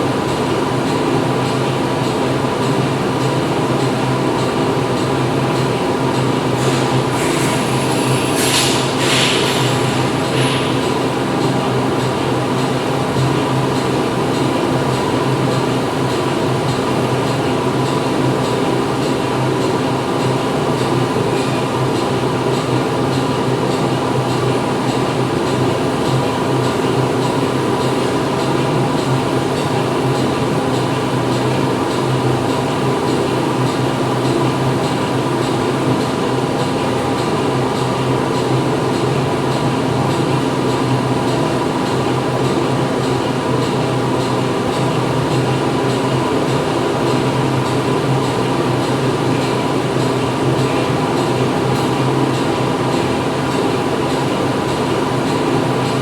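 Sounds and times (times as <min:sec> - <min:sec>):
factory machinery drone: 0:00.0 - 0:56.0.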